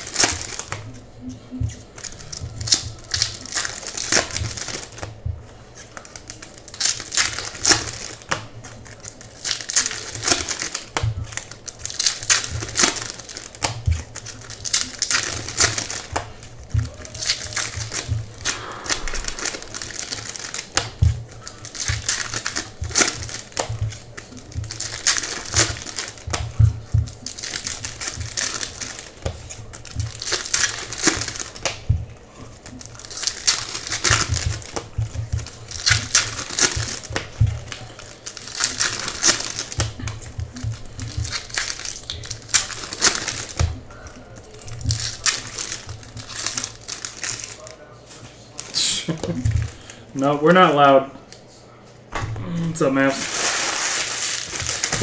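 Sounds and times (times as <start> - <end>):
foil wrappers crinkling and tearing: 0.0 - 51.4, 52.7 - 55.0.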